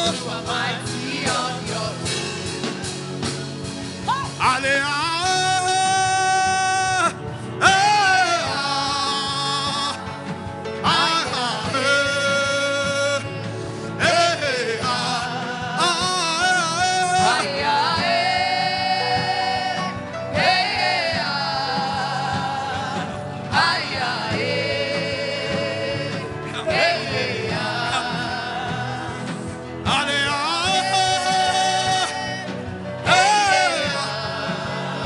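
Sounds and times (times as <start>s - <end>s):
wordless sung vocal: 0.0s - 3.4s, 4.1s - 35.0s
sustained music accompaniment: 0.0s - 35.0s.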